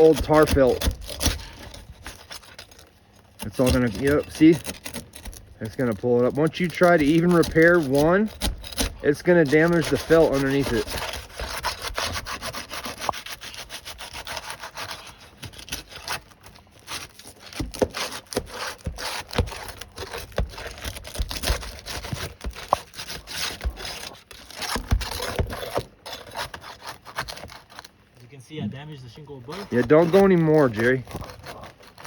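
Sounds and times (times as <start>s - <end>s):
nail bar scraping shingles: 0.0s - 28.1s, 29.3s - 32.0s.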